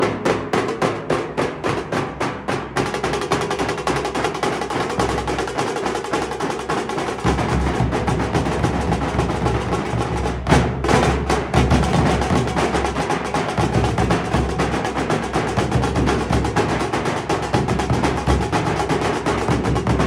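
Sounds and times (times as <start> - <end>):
group of drums playing fast: 0.0 - 20.0.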